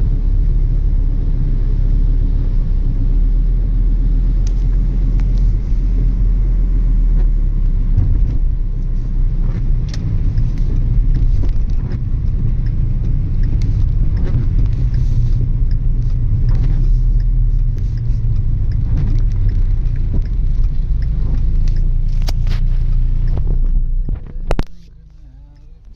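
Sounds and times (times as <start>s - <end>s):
car driving on wet road: 0.0s - 25.9s.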